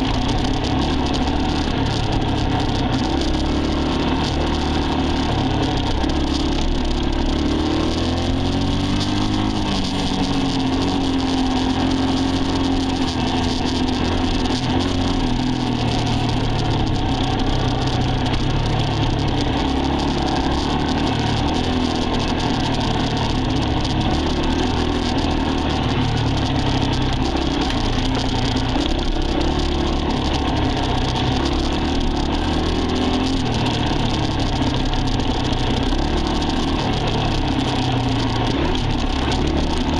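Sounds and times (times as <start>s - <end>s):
dirt bike engine running: 0.0s - 39.9s
steady rushing noise: 0.0s - 39.9s.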